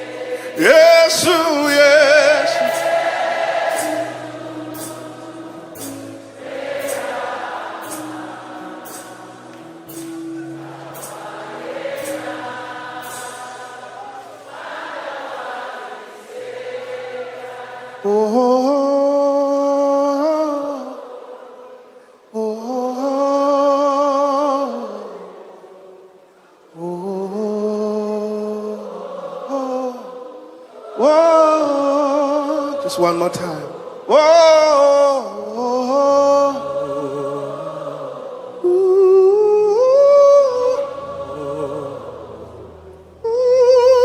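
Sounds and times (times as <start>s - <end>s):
single voice singing with vibrato: 0.0s - 44.0s
voices singing together: 0.0s - 44.0s.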